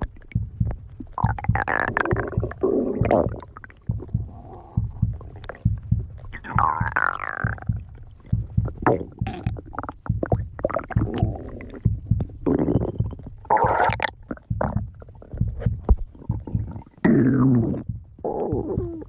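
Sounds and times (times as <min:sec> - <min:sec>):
stomach growling: 0:00.0 - 0:19.0.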